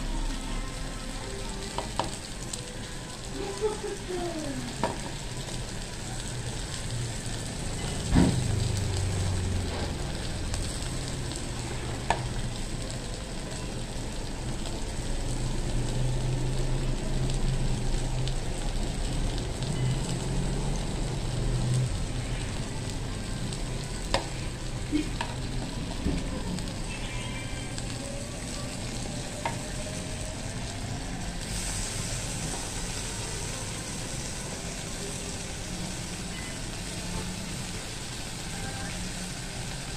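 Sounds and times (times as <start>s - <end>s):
meat sizzling on a grill pan: 0.0s - 39.9s.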